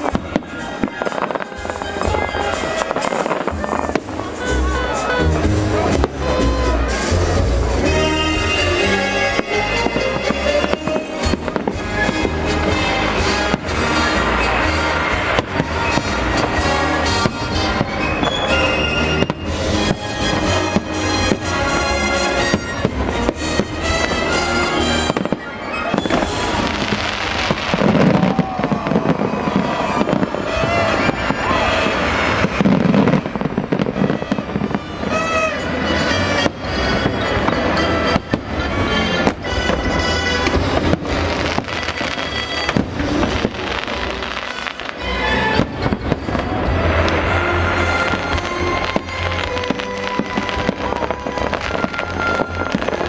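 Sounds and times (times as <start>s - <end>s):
fireworks bursting with sharp bangs: 0.0s - 53.0s
music: 0.0s - 53.0s.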